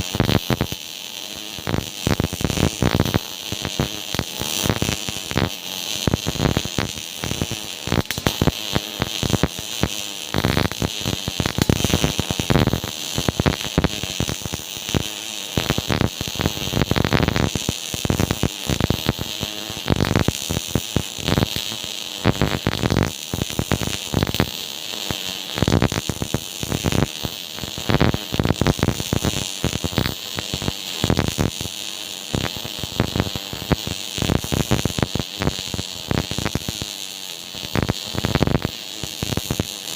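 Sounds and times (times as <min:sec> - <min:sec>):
welding arc crackling: 0:00.0 - 0:39.9.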